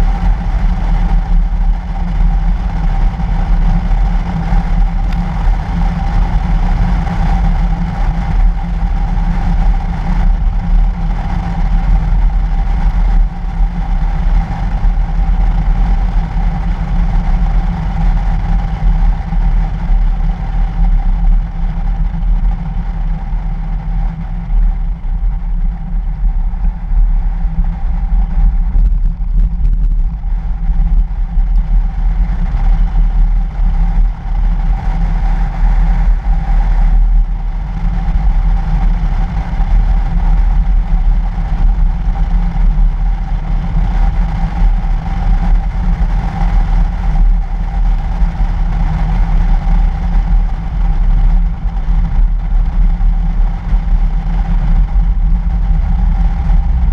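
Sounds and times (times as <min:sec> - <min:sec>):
constant hum: 0:00.0 - 0:56.9
wind and road noise rumble: 0:00.0 - 0:56.9.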